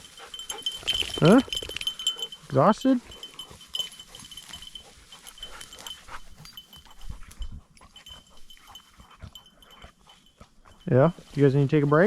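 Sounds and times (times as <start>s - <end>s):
dog panting: 0.0s - 11.4s.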